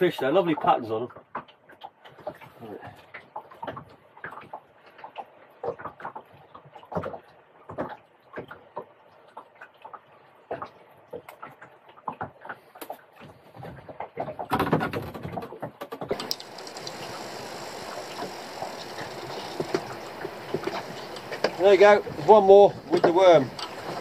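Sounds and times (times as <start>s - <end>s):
clicks and knocks of handling fish: 0.5s - 24.0s.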